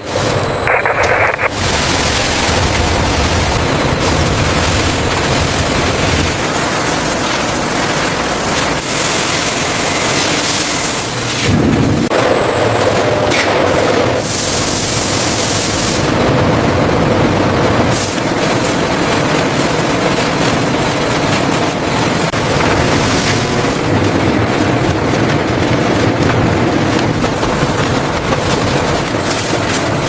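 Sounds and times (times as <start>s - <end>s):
factory machinery clattering: 0.0s - 30.0s.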